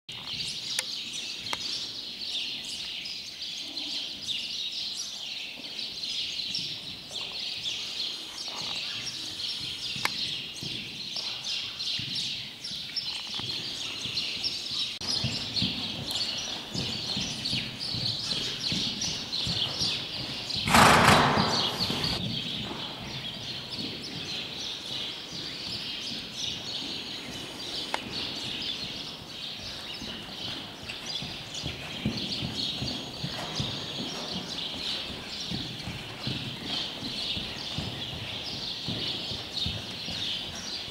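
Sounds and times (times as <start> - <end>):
horse hooves trotting on sand: 0.1 - 40.9
small birds chirping: 0.1 - 40.9.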